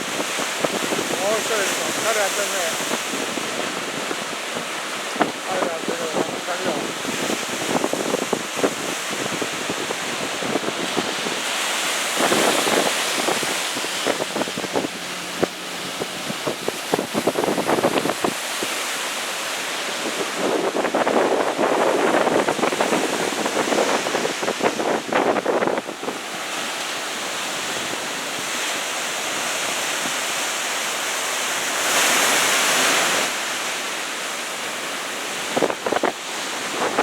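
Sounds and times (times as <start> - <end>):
wind buffeting microphone: 0.0 - 30.5, 34.7 - 37.0
surf breaking on beach: 0.0 - 37.0.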